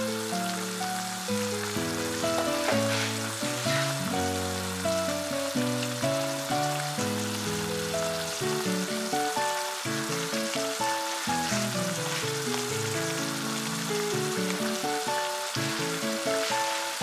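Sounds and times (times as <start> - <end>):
background music: 0.0 - 17.0
sauce sizzling in a frying pan: 0.0 - 17.0.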